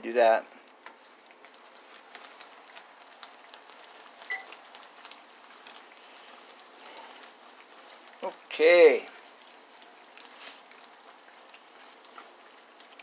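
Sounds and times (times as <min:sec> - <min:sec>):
dough sizzling in hot oil: 0:00.0 - 0:13.0.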